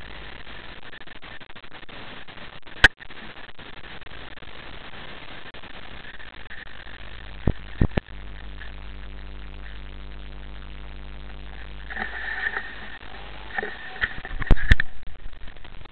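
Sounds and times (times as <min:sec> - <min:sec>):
thin high whine: 0:00.0 - 0:15.9.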